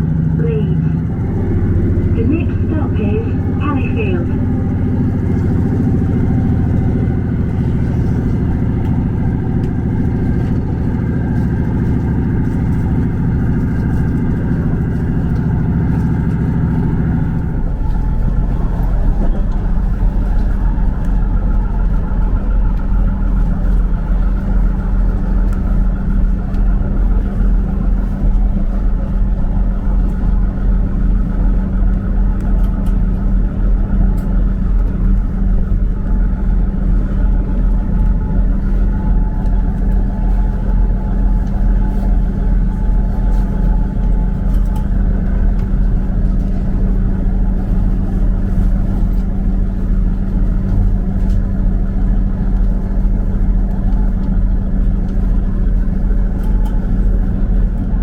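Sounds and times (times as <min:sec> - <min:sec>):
train engine rumble: 0:00.0 - 0:58.0.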